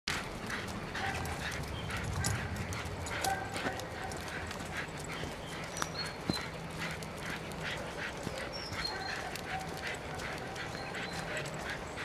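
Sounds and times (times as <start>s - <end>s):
footsteps on leafy earth path: 0.1s - 12.0s.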